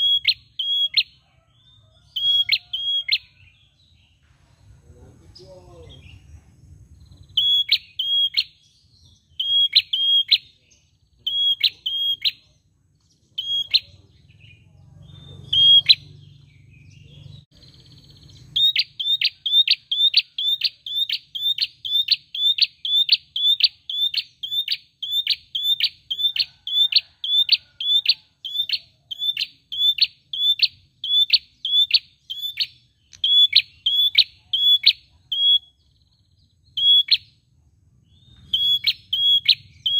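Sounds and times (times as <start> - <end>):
bird singing chip notes: 0.0 - 39.9.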